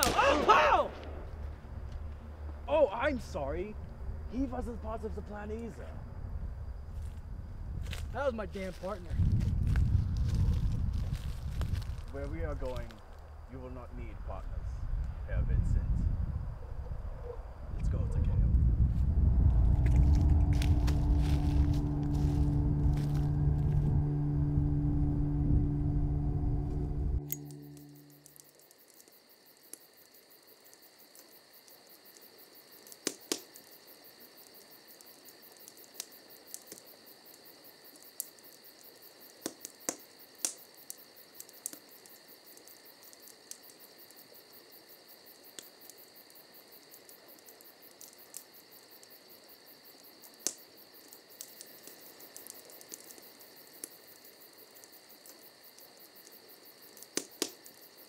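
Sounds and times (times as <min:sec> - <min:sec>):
campfire crackling: 0:00.0 - 0:58.0
crickets chirping: 0:00.0 - 0:58.0.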